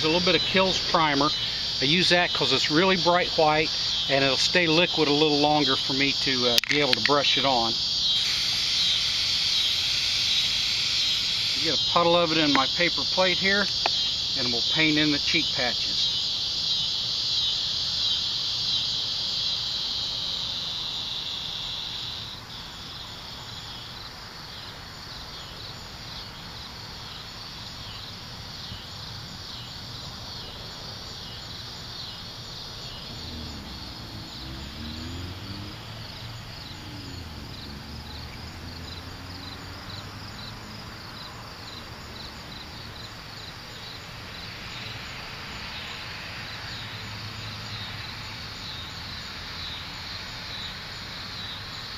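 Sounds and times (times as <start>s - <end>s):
insect high trill: 0.0s - 51.9s
insects chirping: 0.0s - 51.9s.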